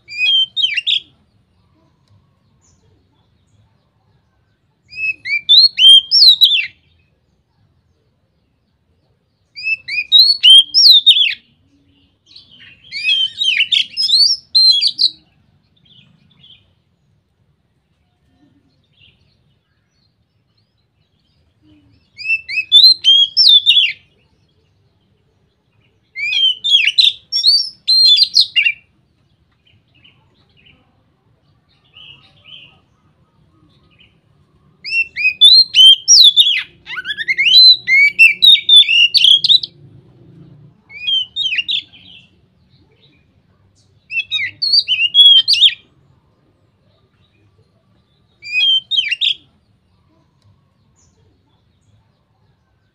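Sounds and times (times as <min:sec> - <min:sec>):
magpie-robin singing: 0:00.0 - 0:04.0, 0:04.7 - 0:07.8, 0:08.4 - 0:17.4, 0:18.3 - 0:39.8, 0:40.8 - 0:46.0, 0:46.7 - 0:52.9.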